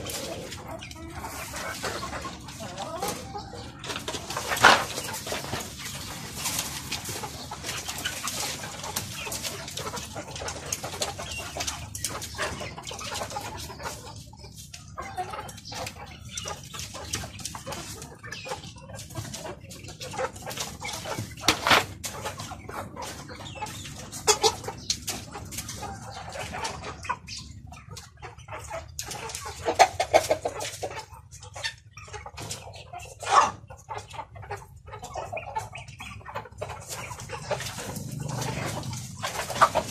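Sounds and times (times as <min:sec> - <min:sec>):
young chickens clucking: 0:00.0 - 0:39.9.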